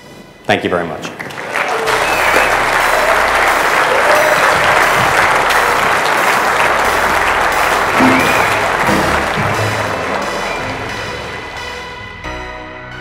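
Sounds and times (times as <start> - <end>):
audience applauding: 1.1 - 12.1.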